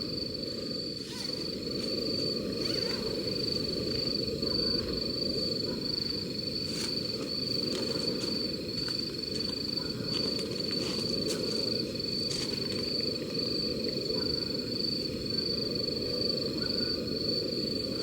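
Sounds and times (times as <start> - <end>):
insect trilling: 0.0 - 18.0.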